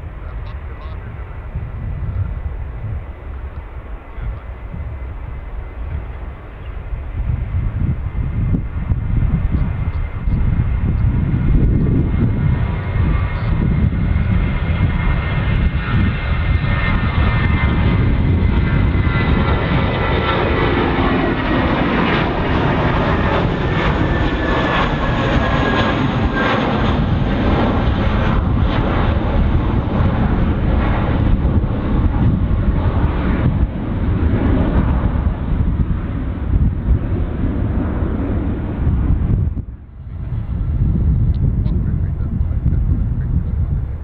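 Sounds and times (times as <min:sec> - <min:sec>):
jet engines passing: 0:00.0 - 0:44.0.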